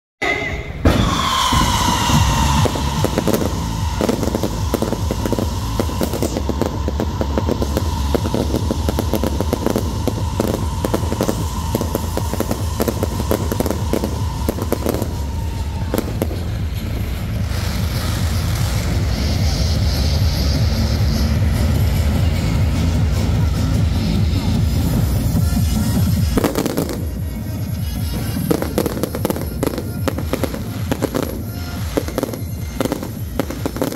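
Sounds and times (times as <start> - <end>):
high whistle-like tone: 0.2 - 23.6, 24.8 - 33.9
fireworks launching and bursting: 0.2 - 33.9
low rumble: 0.7 - 33.9.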